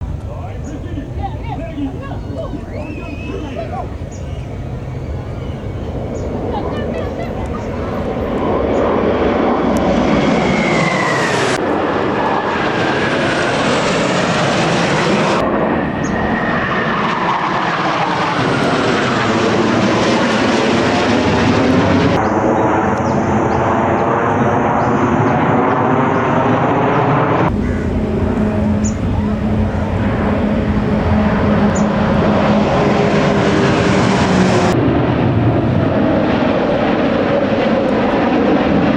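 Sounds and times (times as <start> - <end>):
jet aircraft flying past: 0.0 - 38.9.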